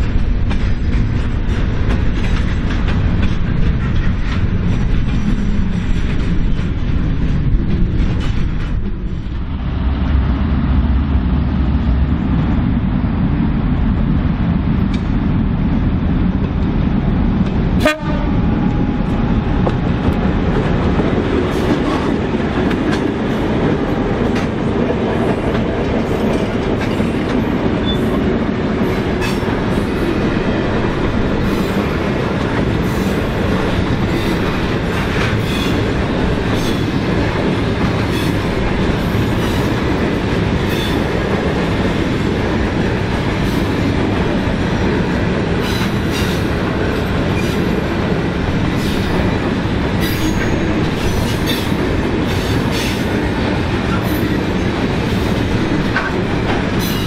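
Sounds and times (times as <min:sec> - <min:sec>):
wheels clicking over rail joints: 0:00.0 - 0:09.5, 0:19.6 - 0:57.0
freight train rumbling past: 0:00.0 - 0:57.0.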